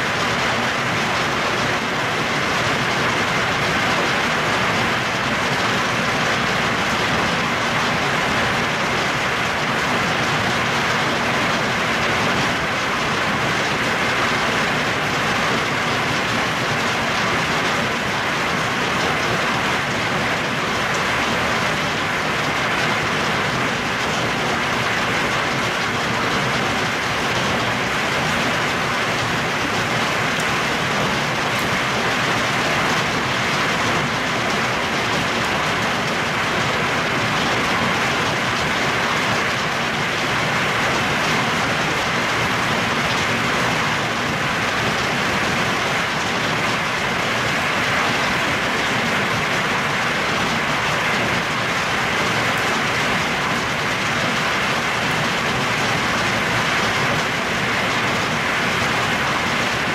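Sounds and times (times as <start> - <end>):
hail and rain pelting leaves: 0.0 - 59.9.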